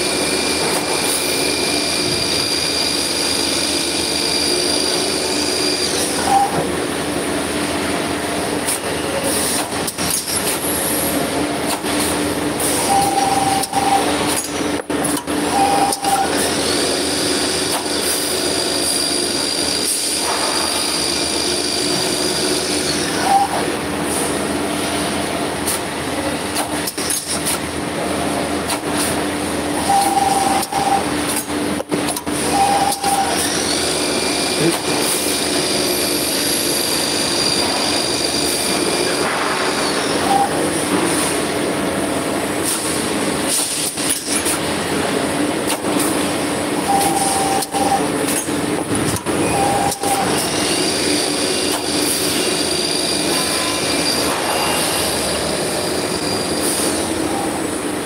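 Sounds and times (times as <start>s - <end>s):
high machine whine: 0.0s - 58.0s.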